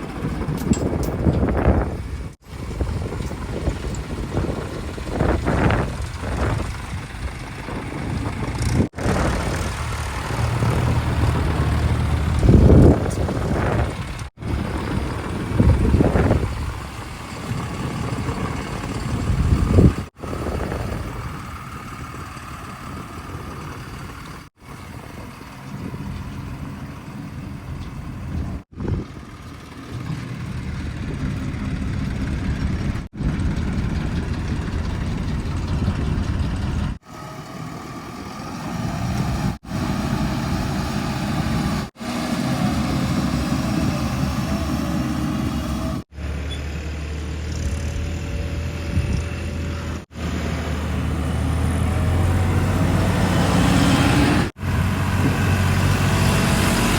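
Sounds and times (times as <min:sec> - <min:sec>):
heavy machinery diesel engines: 0:00.0 - 0:56.9.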